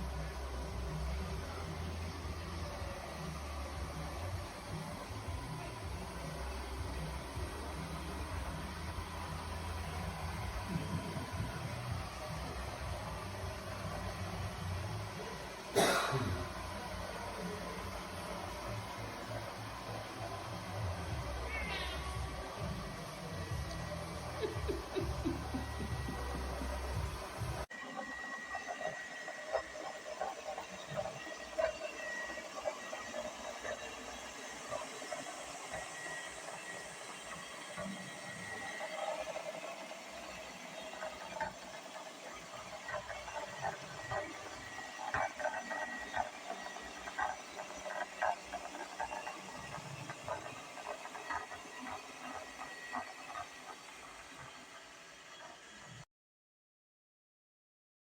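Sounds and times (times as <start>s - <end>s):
robot vacuum cleaner running: 0.0s - 56.0s.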